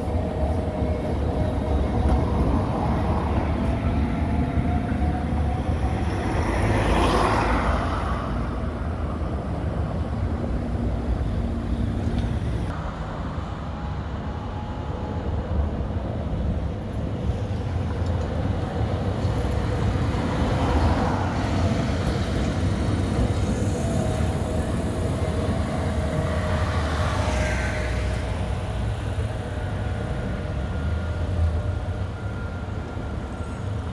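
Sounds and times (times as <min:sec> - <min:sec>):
road traffic rumble: 0:00.0 - 0:33.9
streetcar passing: 0:00.0 - 0:33.9.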